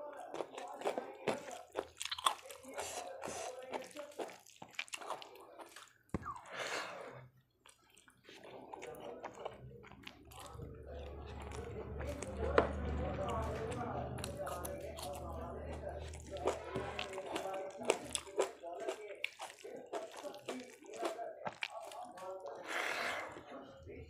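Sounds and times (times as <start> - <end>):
chewing and biting food: 0.0 - 6.6, 7.3 - 23.6.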